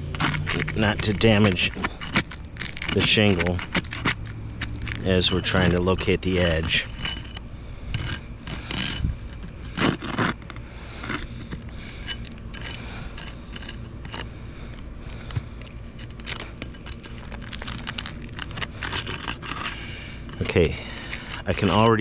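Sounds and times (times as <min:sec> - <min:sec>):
shingles scraping and crackling: 0:00.0 - 0:22.0.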